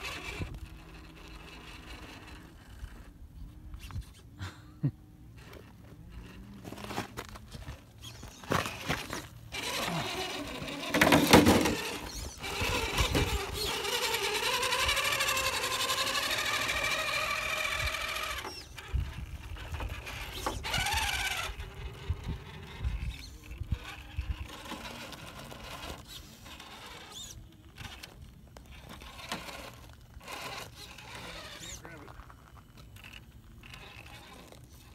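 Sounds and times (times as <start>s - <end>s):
electric motor whining: 0.0s - 3.2s, 5.3s - 34.9s.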